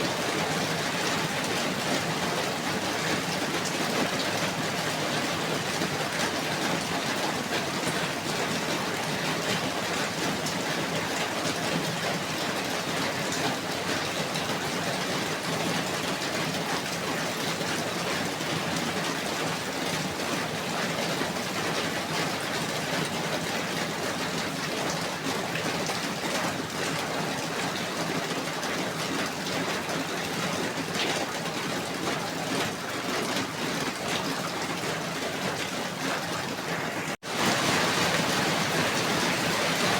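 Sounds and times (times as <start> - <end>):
steady falling rain: 0.0 - 39.9.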